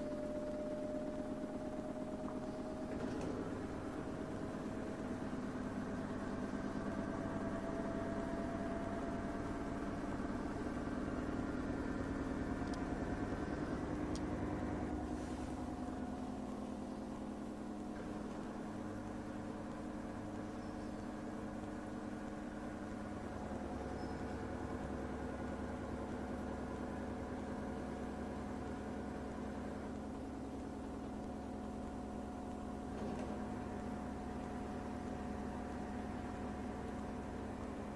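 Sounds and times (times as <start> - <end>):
washing machine spinning hum: 0.0 - 37.9.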